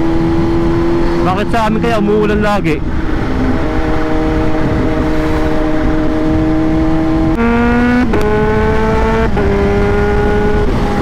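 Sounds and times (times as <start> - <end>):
motorcycle engine accelerating: 0.0 - 11.0
wind rush: 0.0 - 11.0.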